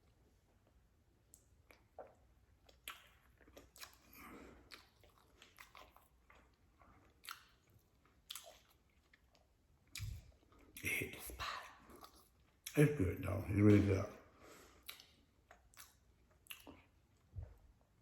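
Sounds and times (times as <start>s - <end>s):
person chewing food: 0.0s - 12.9s, 13.7s - 18.0s.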